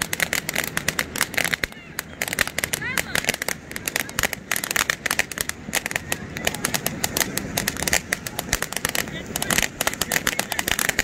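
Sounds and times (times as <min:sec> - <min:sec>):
firework crackling and popping: 0:00.0 - 0:11.0.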